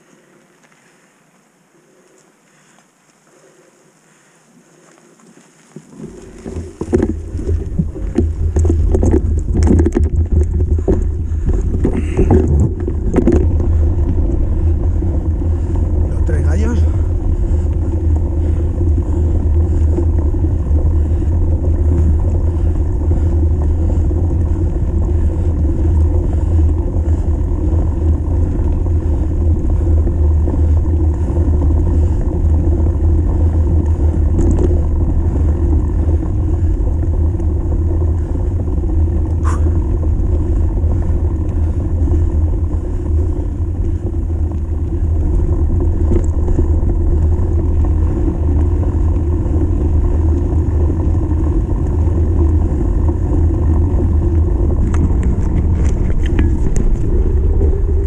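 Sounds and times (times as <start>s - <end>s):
mountain bike rumble on dirt: 0.0s - 58.0s
wind on microphone: 5.9s - 58.0s.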